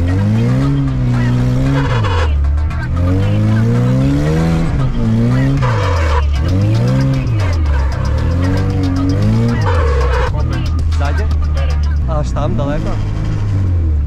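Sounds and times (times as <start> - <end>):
phonk music: 0.0 - 13.4
car engine revving: 0.0 - 14.0.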